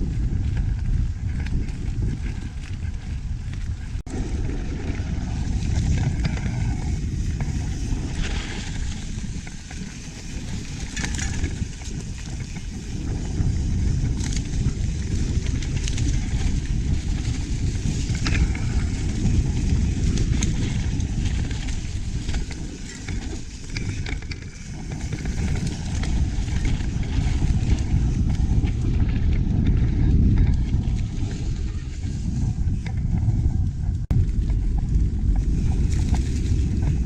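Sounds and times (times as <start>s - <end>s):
bike clicks and rattles: 0.0s - 37.0s
wind buffeting microphone: 0.0s - 37.0s.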